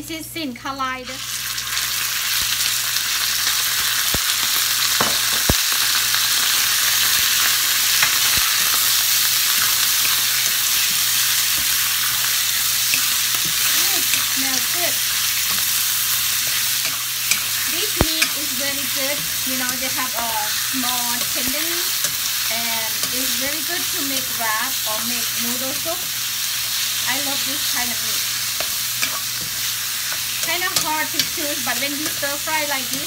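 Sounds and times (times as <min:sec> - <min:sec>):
meat sizzling in oil: 0:01.0 - 0:33.0.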